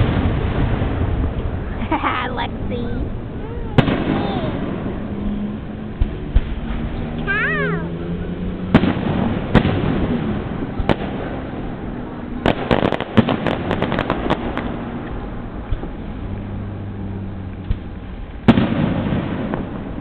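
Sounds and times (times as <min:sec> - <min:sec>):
fireworks bangs: 0:00.0 - 0:20.0
fireworks crackle: 0:00.0 - 0:20.0.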